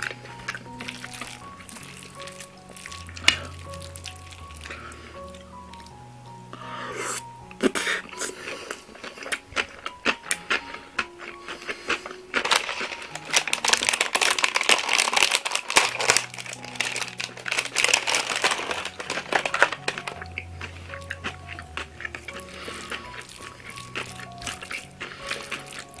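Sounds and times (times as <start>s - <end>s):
foil snack pack crinkling: 0.0s - 6.0s, 7.6s - 26.0s.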